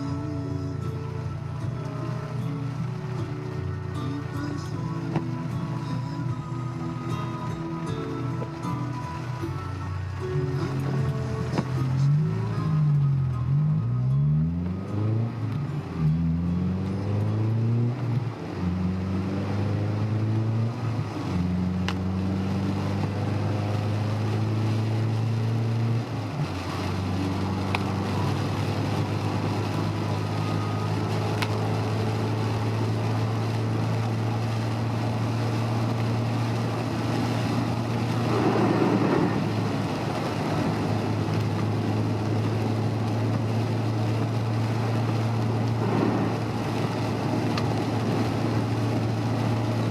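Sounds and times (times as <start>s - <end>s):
car engine revving: 1.0s - 49.9s.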